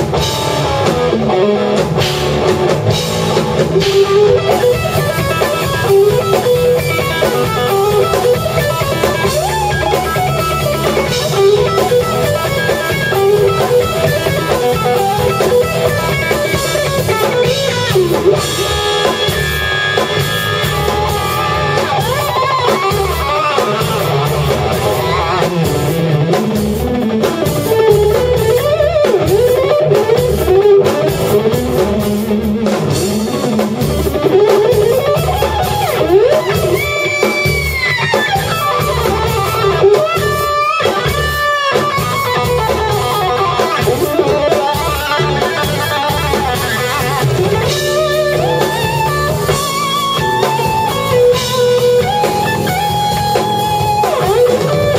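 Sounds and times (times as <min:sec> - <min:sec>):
bass guitar: 0:00.0 - 0:54.9
drum kit: 0:00.0 - 0:54.9
electric guitar lead: 0:00.0 - 0:54.9.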